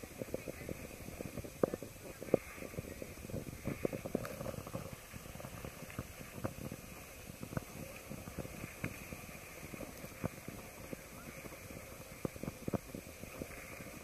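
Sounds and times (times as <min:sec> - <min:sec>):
low rumble: 0:00.0 - 0:14.0
skis scraping over snow: 0:00.0 - 0:14.0.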